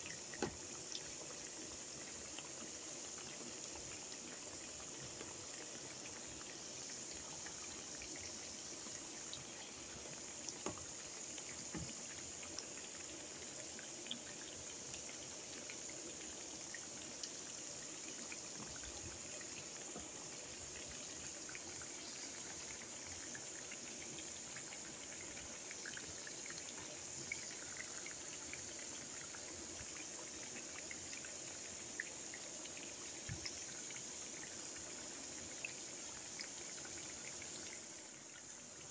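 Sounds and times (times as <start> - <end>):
food deep-frying in hot oil: 0.0 - 38.9.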